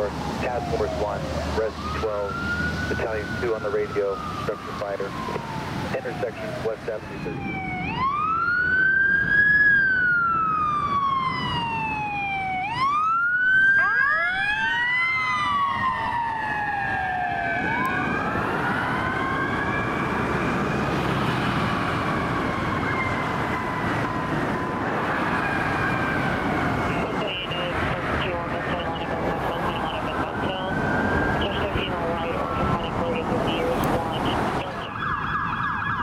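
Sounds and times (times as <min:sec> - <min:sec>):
ambulance siren wailing: 0:00.0 - 0:36.0
traffic and engine noise: 0:00.0 - 0:36.0.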